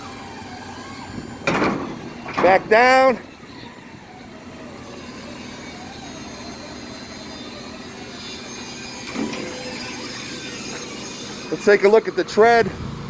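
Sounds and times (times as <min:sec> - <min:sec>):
liftgate mechanical hum: 0:00.0 - 0:13.0.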